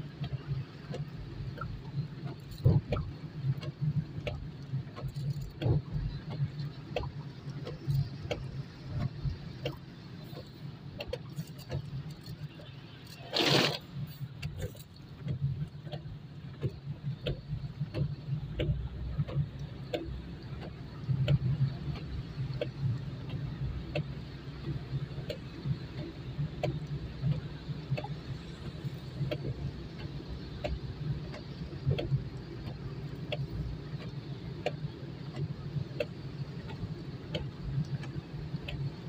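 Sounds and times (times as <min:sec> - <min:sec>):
car engine and road rumble: 0:00.0 - 0:39.0
raindrops ticking on windshield: 0:00.0 - 0:39.0.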